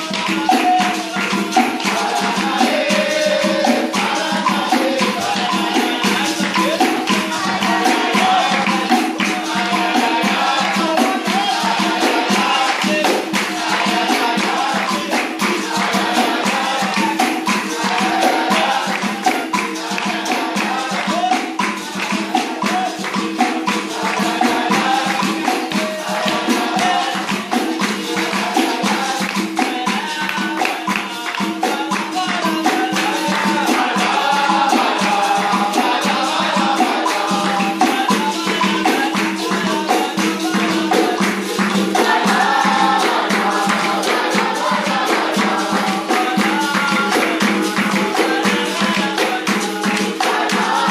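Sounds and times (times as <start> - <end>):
tambourine beat: 0.0 - 50.9
voices singing: 0.0 - 50.9.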